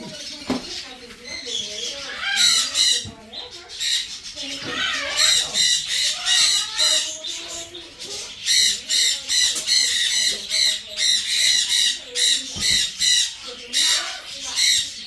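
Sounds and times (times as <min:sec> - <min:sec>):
baby parrots squawking: 0:00.0 - 0:15.0.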